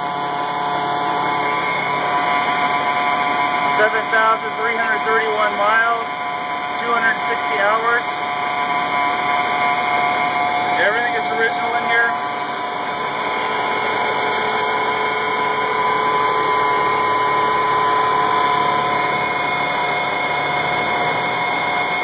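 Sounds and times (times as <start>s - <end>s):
diesel truck engine idling: 0.0s - 22.0s
steady whine: 0.0s - 22.0s.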